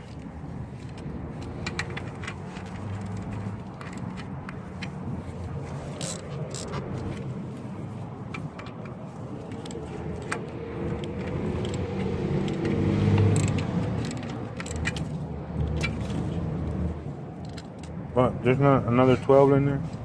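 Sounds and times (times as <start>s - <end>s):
passing vehicle rumbling: 0.0s - 20.0s.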